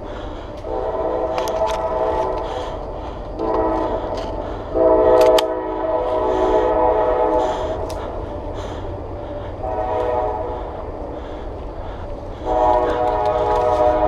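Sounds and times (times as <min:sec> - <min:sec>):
steady low rumble: 0:00.0 - 0:14.0
train horn blasts: 0:00.6 - 0:08.5, 0:09.3 - 0:11.0, 0:12.3 - 0:14.0.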